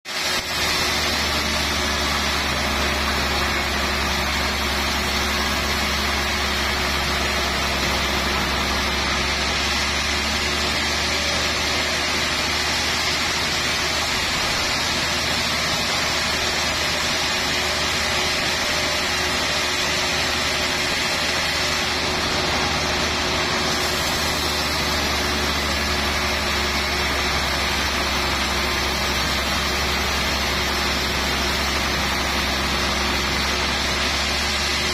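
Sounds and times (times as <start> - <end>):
band saw cutting log: 0.1 - 34.9
low motor hum: 0.3 - 34.9.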